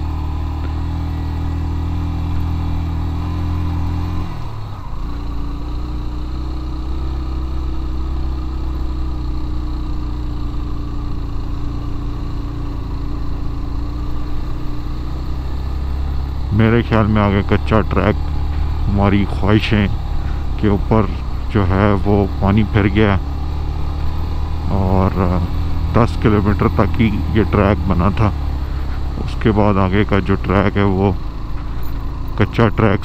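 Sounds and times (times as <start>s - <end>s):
motorcycle engine under load: 0.0s - 33.0s.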